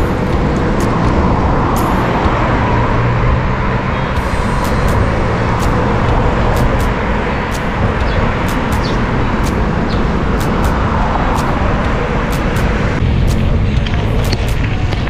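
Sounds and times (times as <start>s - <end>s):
road rumble: 0.0s - 15.0s
wind on microphone: 0.0s - 15.0s.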